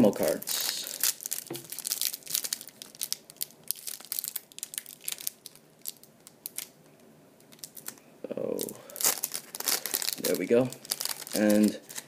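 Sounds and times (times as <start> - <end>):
plastic wrapper crinkling and tearing: 0.0 - 6.8, 7.4 - 12.0.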